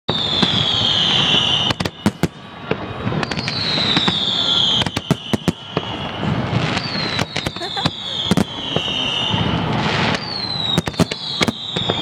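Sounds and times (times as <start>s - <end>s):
firework cracking bangs: 0.1s - 12.0s
firework whistle falling in pitch: 0.1s - 12.0s.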